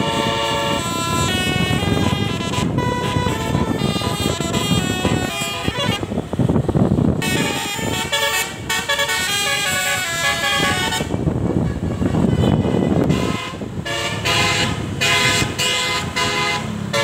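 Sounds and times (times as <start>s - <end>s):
bus horn playing a tune: 0.0s - 6.4s, 7.2s - 17.0s
engine and road noise: 0.0s - 17.0s.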